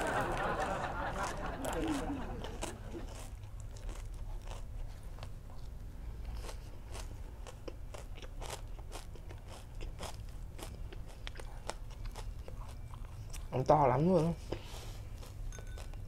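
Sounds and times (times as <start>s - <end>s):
crunchy chewing: 0.0s - 16.0s
low steady hum: 0.0s - 16.0s.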